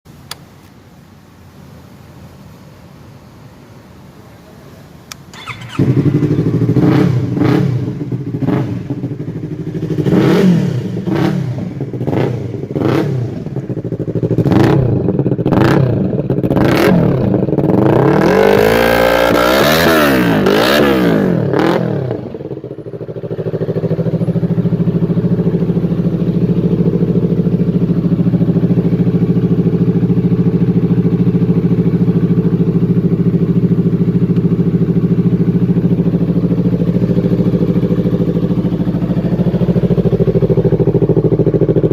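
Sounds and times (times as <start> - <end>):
motorcycle engine idling: 5.1 - 18.0, 21.1 - 41.9
motorcycle engine revving: 5.3 - 41.9.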